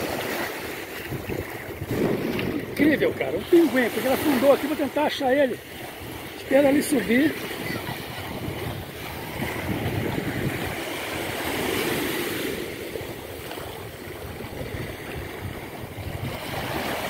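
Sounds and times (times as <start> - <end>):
wind on microphone: 0.0 - 5.0, 5.6 - 17.0
waves lapping on sandy shore: 0.0 - 17.0.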